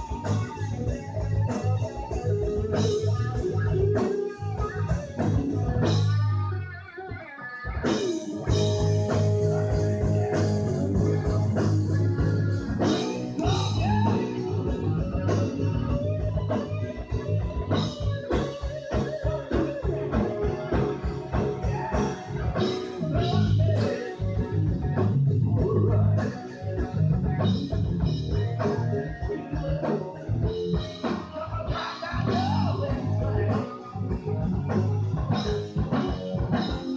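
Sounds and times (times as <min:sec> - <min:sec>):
steady drum beat: 0:00.0 - 0:06.2, 0:07.8 - 0:36.9
bass: 0:00.0 - 0:36.9
electric guitar with bent notes: 0:00.0 - 0:36.9.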